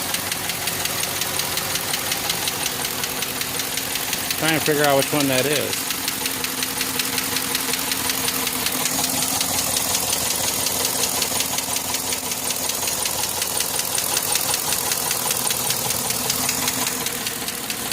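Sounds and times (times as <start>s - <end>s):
car engine running: 0.0s - 17.9s
fast even tapping clack: 0.0s - 17.9s.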